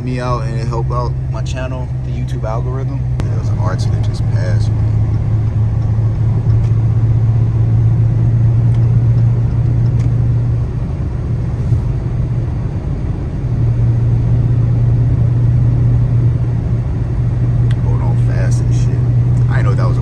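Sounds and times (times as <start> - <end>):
car exhaust drone: 0.0 - 20.0.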